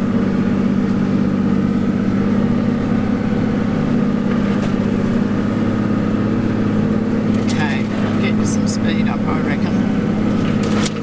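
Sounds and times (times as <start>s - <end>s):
car engine running under load: 0.0s - 11.0s.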